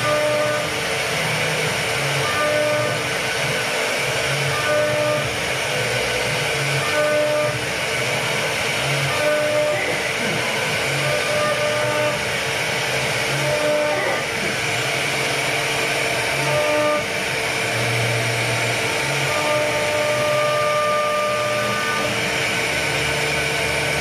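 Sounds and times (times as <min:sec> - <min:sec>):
router spindle whirring: 0:00.0 - 0:24.0.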